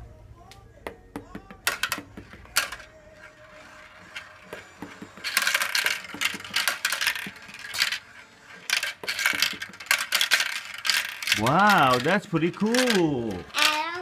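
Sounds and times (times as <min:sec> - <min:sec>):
marbles rolling down plastic track: 0:01.6 - 0:14.0.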